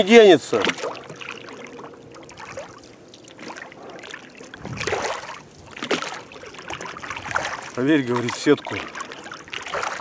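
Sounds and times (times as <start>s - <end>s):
oars splashing in water: 0.4s - 10.0s.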